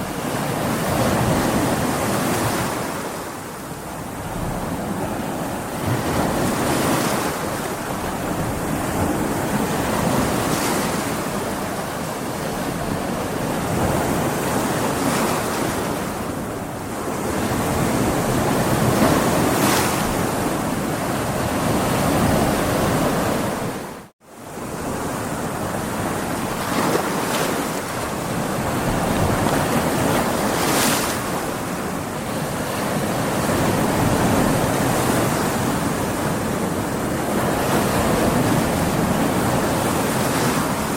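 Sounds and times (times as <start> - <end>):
big waves breaking on beach: 0.0 - 40.9.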